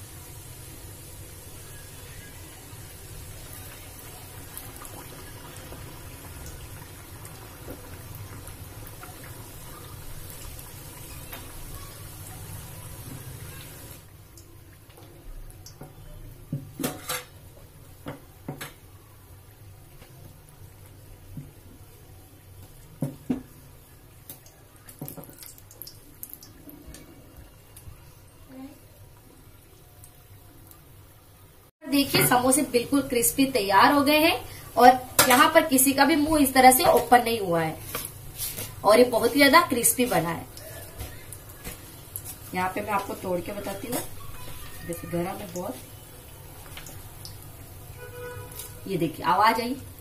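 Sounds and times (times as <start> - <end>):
food deep-frying in oil: 0.0 - 50.0.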